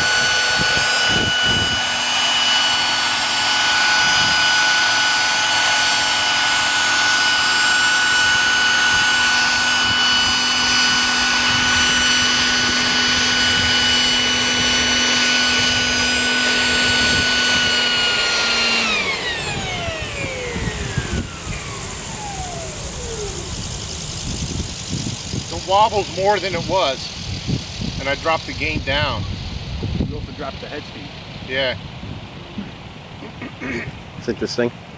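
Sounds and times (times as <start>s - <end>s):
model helicopter rotors whining: 0.0s - 34.7s.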